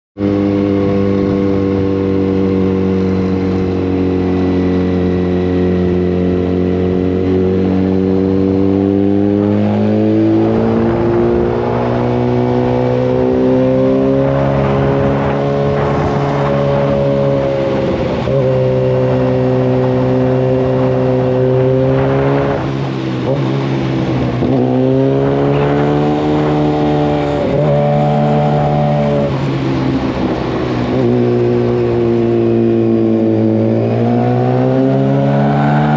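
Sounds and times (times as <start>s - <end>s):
motorcycle engine revving: 0.2s - 35.9s.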